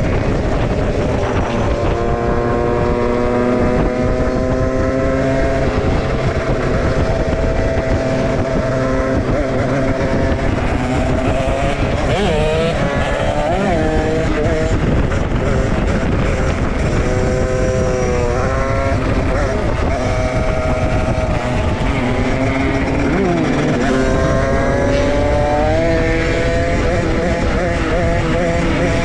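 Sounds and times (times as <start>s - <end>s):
motorcycle engine running: 0.0s - 29.0s
wind rumbling on microphone: 0.0s - 29.0s.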